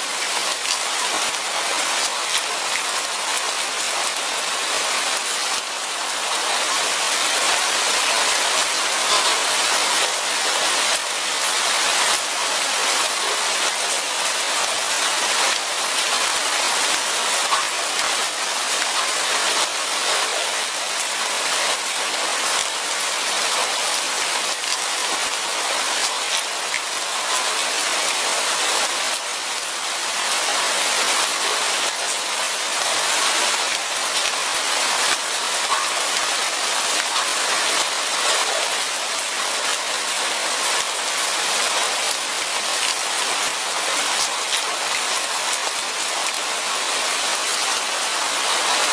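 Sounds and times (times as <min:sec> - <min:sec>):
light rain falling: 0:00.0 - 0:48.9.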